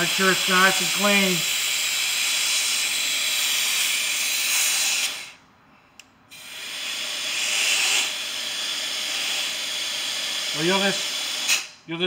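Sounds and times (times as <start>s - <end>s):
compressed air hissing: 0.0s - 5.4s, 6.3s - 11.8s.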